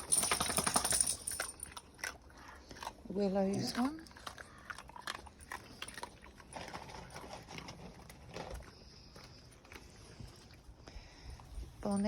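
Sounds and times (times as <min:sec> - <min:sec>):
dogs eating treats: 0:00.0 - 0:12.0.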